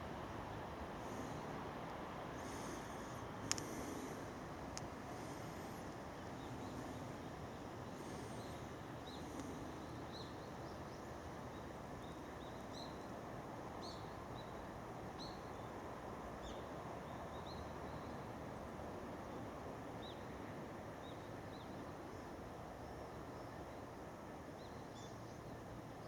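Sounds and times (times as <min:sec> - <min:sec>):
faint outdoor background hiss: 0:00.0 - 0:26.0.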